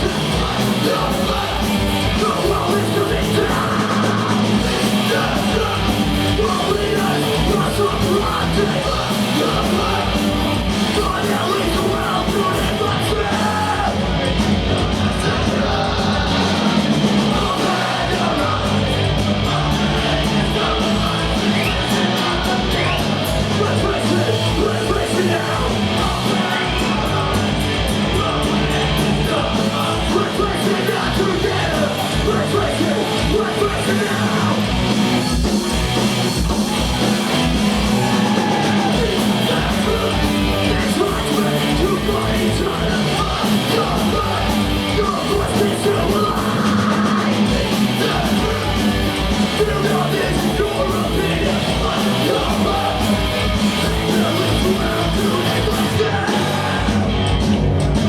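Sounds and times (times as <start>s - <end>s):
shouted vocals: 0.0s - 35.2s, 35.8s - 58.0s
distorted electric guitars: 0.0s - 58.0s
fast driving drum beat: 0.0s - 58.0s.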